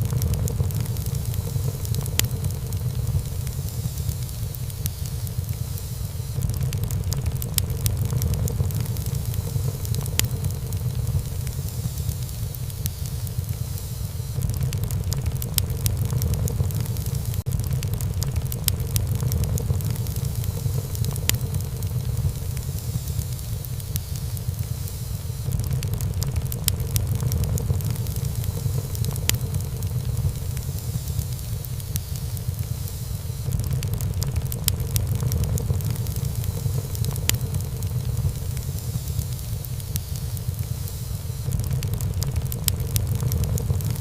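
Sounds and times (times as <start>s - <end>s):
low fire rumble: 0.0s - 44.0s
wood fire crackling and popping: 0.0s - 44.0s.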